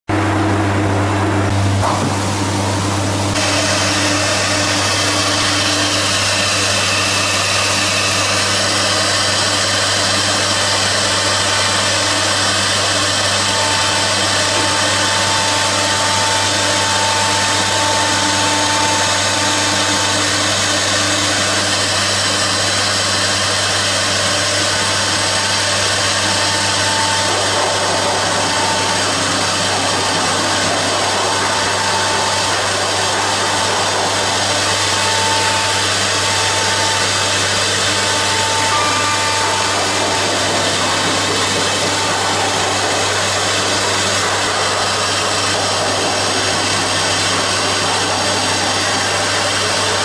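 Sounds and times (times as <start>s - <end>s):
dust extraction running: 0.1s - 50.0s
thin whine: 0.1s - 50.0s
router spindle milling wood: 3.2s - 50.0s.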